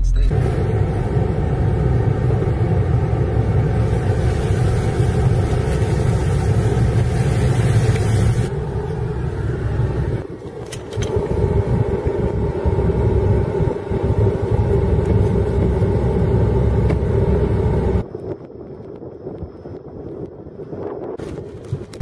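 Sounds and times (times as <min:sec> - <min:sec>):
vehicle engine rumbling: 0:00.0 - 0:22.0
wind noise: 0:00.0 - 0:22.0.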